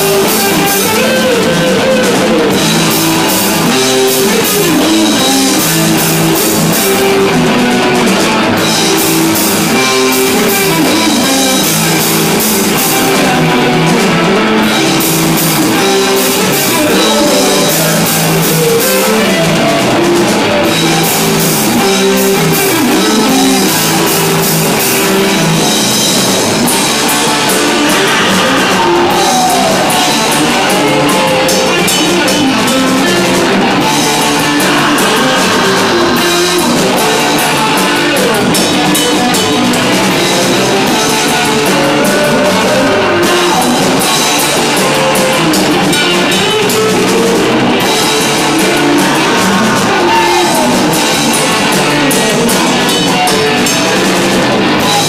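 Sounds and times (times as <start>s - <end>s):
drum kit beat: 0.0s - 55.0s
live rock band: 0.0s - 55.0s.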